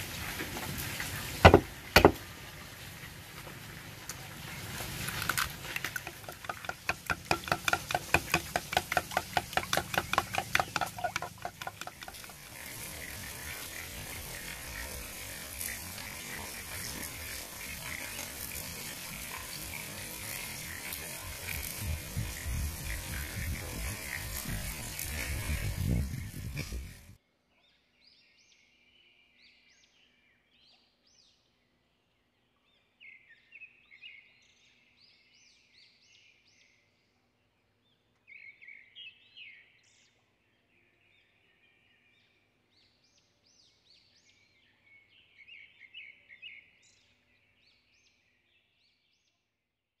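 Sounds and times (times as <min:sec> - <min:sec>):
small birds chirping: 0:04.1 - 0:49.2.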